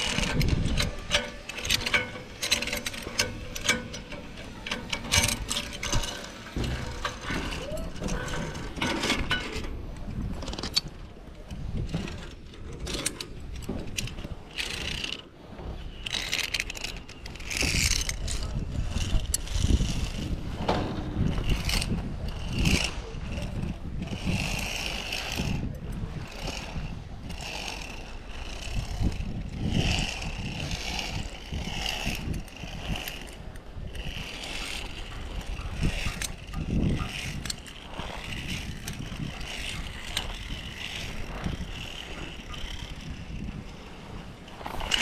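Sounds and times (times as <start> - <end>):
metallic clicks and scrapes: 0.0 - 45.0
pulleys whirring on steel cable: 0.0 - 45.0
wind rumbling on microphone: 0.0 - 45.0.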